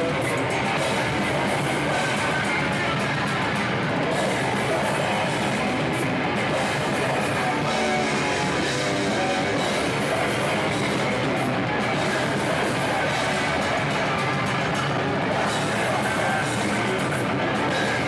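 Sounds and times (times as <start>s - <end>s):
distorted electric guitars: 0.0s - 18.0s
drum kit: 0.0s - 18.0s.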